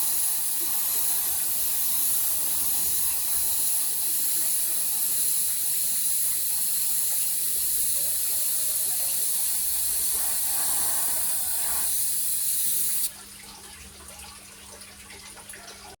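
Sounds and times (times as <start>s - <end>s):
airbrush air hiss: 0.0s - 13.1s.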